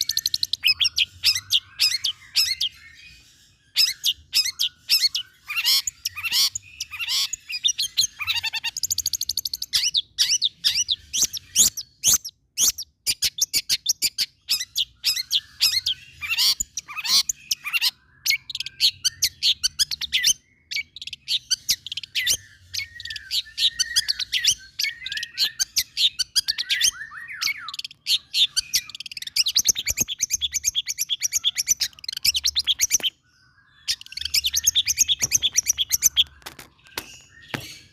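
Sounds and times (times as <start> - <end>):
bird singing chirps and trills: 0.0 - 37.9.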